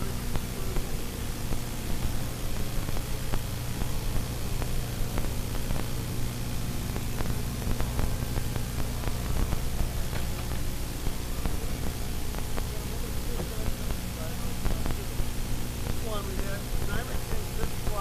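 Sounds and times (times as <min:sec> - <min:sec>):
boat engine drone: 0:00.0 - 0:18.0
tape hiss: 0:00.0 - 0:18.0.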